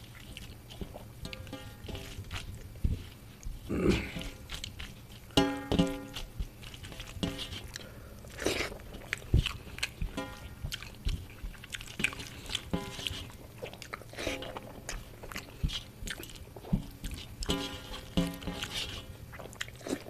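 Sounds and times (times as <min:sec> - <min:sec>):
chewing crunchy food: 0:00.0 - 0:05.4, 0:06.1 - 0:20.0.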